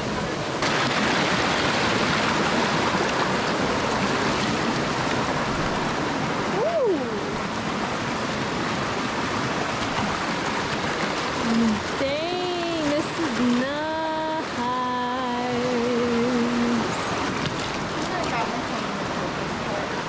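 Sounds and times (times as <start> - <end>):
creek rushing over rocks: 0.0 - 20.0.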